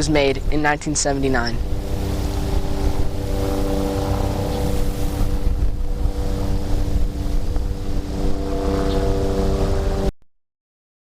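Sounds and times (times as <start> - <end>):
steady motor drone: 0.0 - 10.1
wind gusting on microphone: 0.0 - 10.1.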